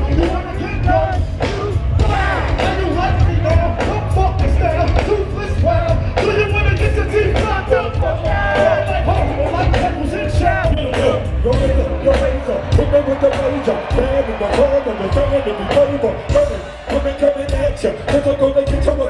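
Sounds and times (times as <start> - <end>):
crowd noise: 0.0 - 19.0
hip-hop music through pa: 0.0 - 19.0.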